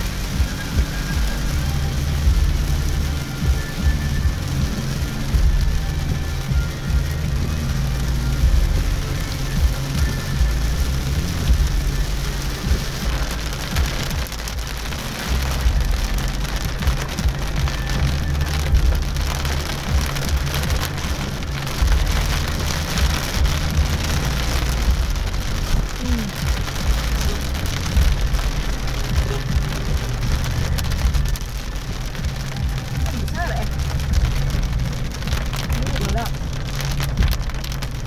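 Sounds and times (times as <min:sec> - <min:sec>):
heavy rain pelting a car: 0:00.0 - 0:38.0
low rumble of moving car: 0:00.0 - 0:38.0.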